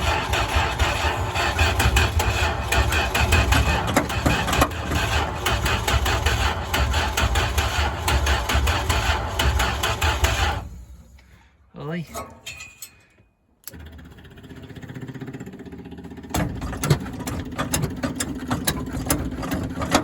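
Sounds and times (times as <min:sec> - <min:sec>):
truck engine running unevenly: 0:00.0 - 0:11.1, 0:13.7 - 0:20.0.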